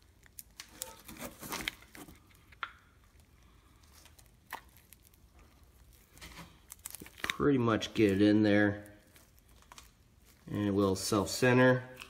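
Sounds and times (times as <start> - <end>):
rubber rubbing and squishing: 0.0 - 12.0.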